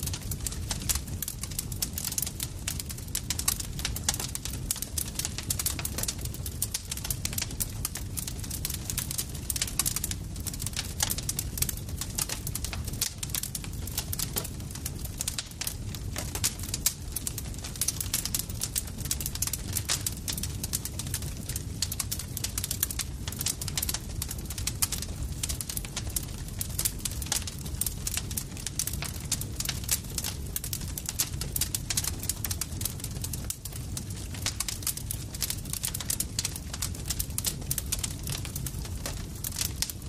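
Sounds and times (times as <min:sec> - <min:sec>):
campfire crackling: 0:00.0 - 0:40.0
low rumble of burning wood: 0:00.0 - 0:40.0.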